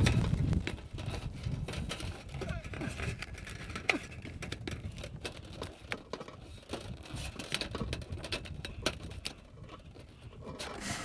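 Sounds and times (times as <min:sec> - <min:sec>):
sheet metal clicks and crinkles: 0:00.0 - 0:11.0.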